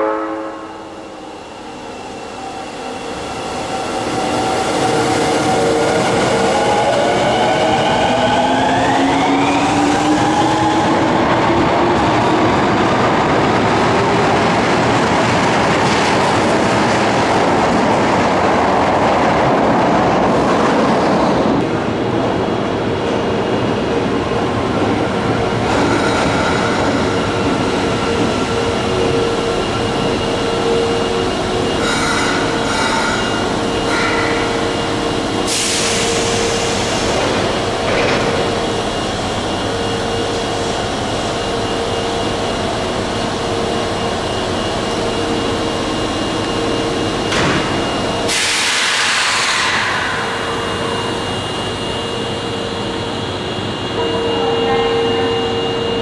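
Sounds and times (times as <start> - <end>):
train humming at platform: 0.0 - 56.0.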